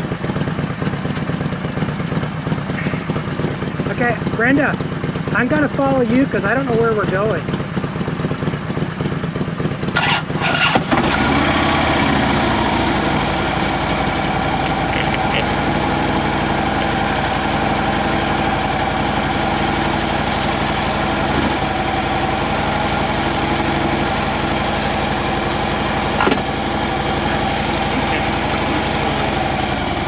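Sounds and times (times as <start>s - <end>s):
motorcycle engines idling: 0.0s - 30.0s.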